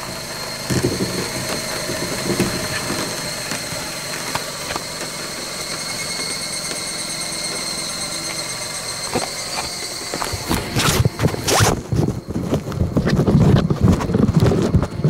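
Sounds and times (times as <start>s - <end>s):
car engine idling: 0.0s - 13.0s
high-pitched whine: 0.0s - 15.0s.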